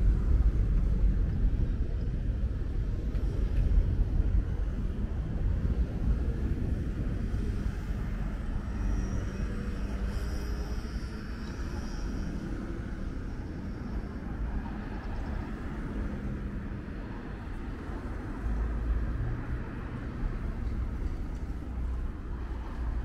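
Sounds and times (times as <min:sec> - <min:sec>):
city street traffic rumble: 0:00.0 - 0:23.0.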